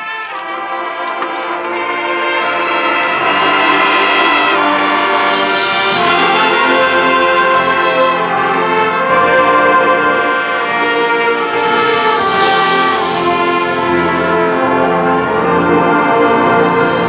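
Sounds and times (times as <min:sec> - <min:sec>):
low brass: 0:00.0 - 0:17.0.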